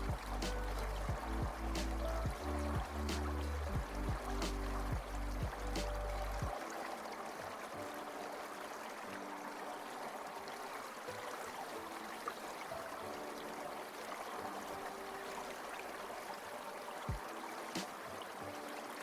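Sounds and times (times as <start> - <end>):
soft sustained music notes: 0.0 - 19.0
water stream trickling: 0.0 - 19.0.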